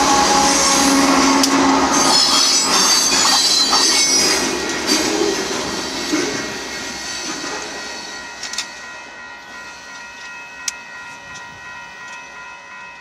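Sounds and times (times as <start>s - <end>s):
train cars rumbling on rails: 0.0s - 13.0s.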